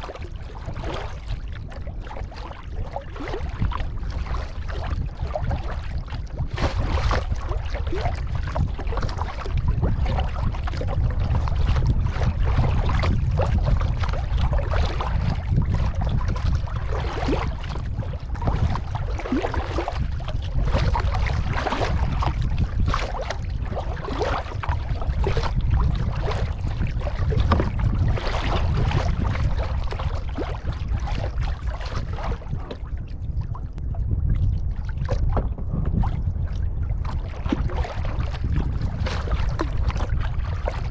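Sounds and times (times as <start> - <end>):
paddle strokes splashing: 0.0 - 40.9
water trickling off paddle: 0.0 - 40.9
wind rumble on microphone: 0.0 - 40.9.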